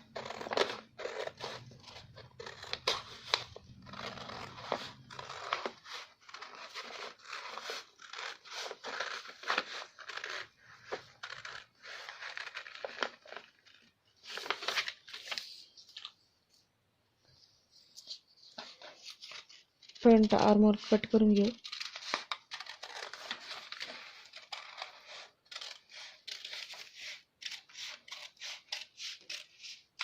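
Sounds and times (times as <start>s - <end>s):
scissors snipping paper: 0.0s - 13.8s, 18.9s - 30.0s
paper rustling: 0.1s - 16.7s, 17.6s - 29.3s.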